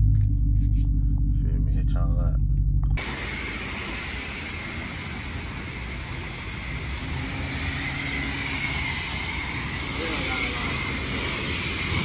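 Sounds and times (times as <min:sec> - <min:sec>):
car engine exhaust while driving: 0:00.0 - 0:12.0
road and wind noise: 0:00.0 - 0:12.0.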